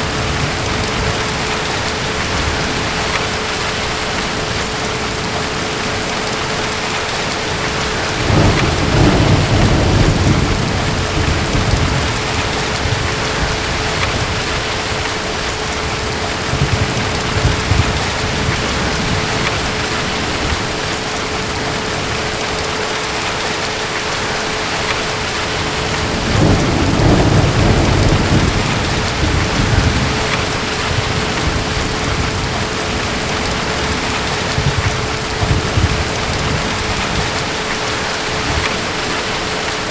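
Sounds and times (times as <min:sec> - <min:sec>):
distant thunder rumbling: 0:00.0 - 0:39.9
steady rain: 0:00.0 - 0:39.9.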